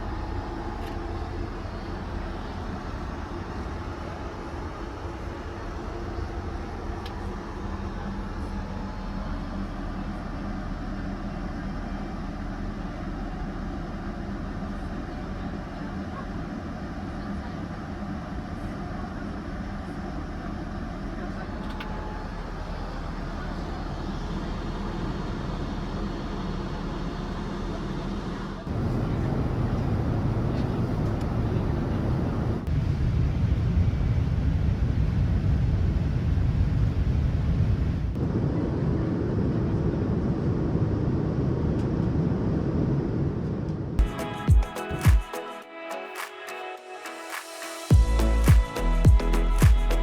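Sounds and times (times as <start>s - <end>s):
airliner cabin roar: 0.0s - 45.6s.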